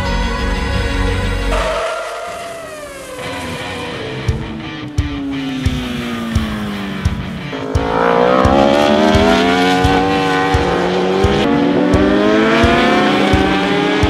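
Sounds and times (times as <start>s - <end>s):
motorcycle engines at full throttle: 1.6s - 14.0s.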